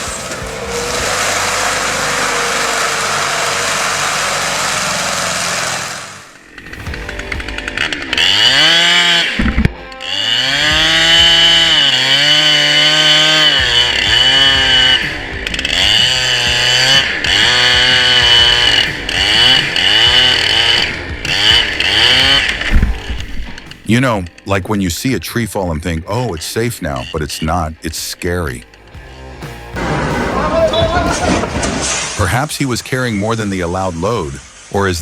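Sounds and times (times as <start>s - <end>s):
chainsaw cutting: 0.0s - 24.0s, 26.0s - 27.6s, 29.4s - 32.2s.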